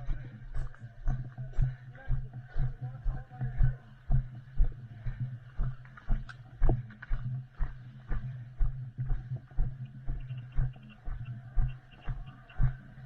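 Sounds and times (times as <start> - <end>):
heavy footsteps: 0.0 - 12.8.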